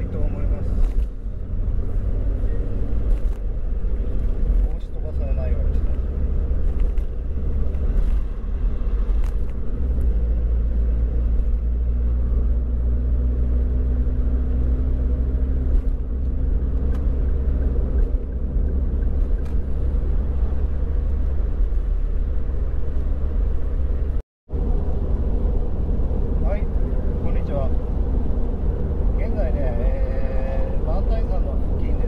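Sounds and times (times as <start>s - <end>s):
car engine humming: 0.0s - 32.0s
road noise: 0.0s - 32.0s.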